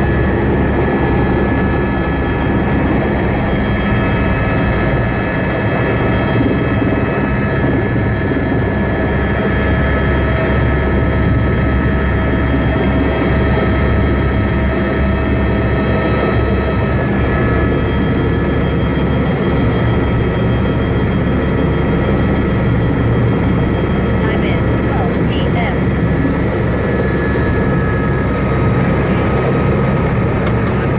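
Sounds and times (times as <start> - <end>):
helicopter high whines: 0.0 - 30.9
helicopter low drone: 0.0 - 30.9.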